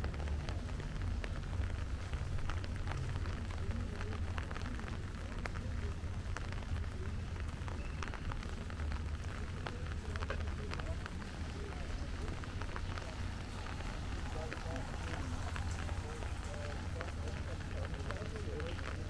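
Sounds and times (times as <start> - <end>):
raindrops ticking: 0.0 - 19.0.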